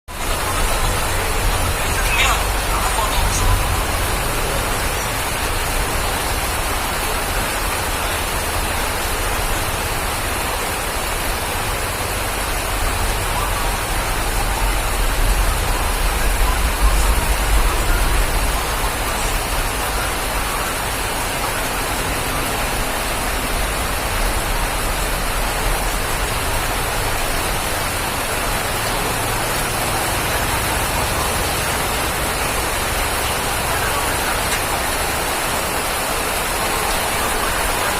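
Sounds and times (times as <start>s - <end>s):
steady rain falling: 0.1s - 37.9s.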